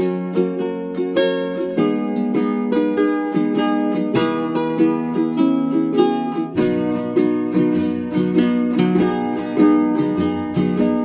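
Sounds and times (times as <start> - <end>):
strummed ukulele tune: 0.0 - 11.0.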